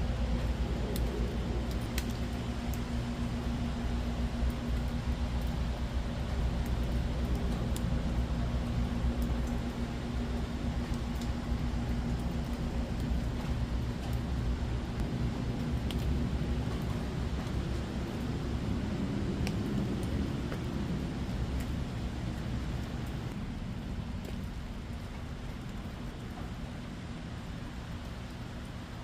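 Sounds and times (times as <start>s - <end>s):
constant low hum: 0.0s - 29.0s
raindrops ticking: 0.0s - 29.0s
steady rain falling: 0.0s - 29.0s.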